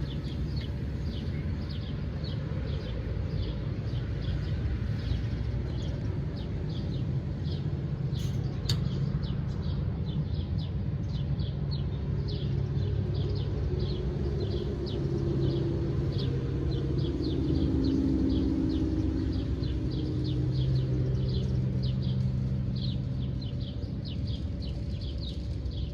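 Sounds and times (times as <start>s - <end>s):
distant traffic rumble: 0.0s - 25.9s
small birds chirping: 0.0s - 25.9s.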